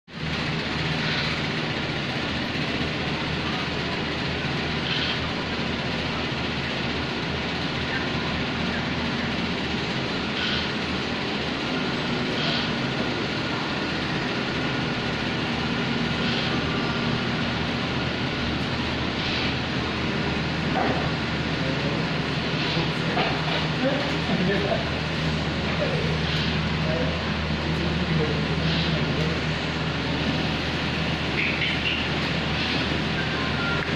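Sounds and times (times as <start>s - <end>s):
faint hum: 0.1s - 33.9s
industrial machinery rumble and hiss: 0.1s - 33.9s.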